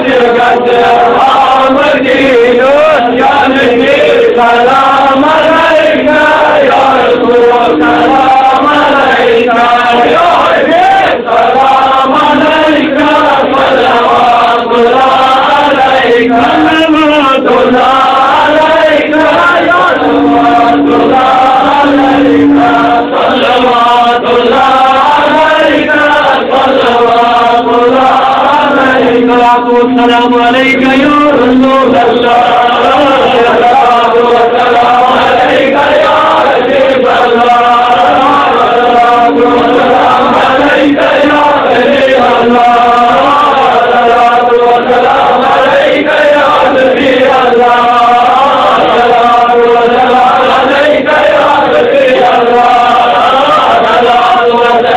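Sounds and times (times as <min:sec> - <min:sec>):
men chanting melodically: 0:00.0 - 0:54.9.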